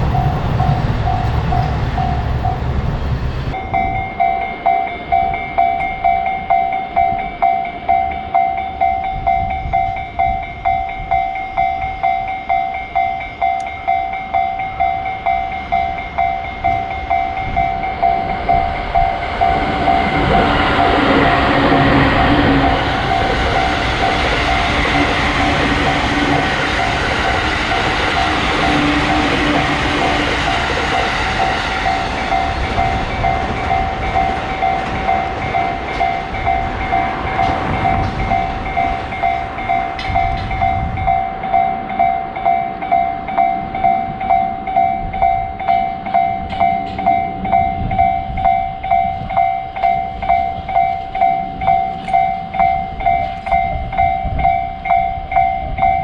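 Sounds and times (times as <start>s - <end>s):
level crossing warning bell: 0.0s - 56.0s
train rumble and clatter: 0.0s - 56.0s.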